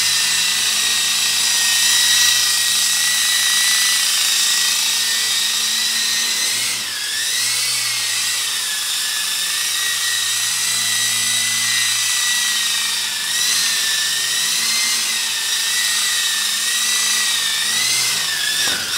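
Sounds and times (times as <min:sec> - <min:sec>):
toy helicopter motor whining: 0:00.0 - 0:18.9.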